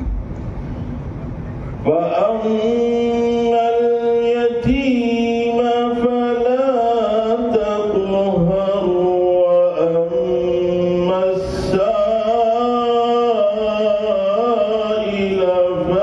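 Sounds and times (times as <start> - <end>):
man chanting melodically: 1.6 - 16.0.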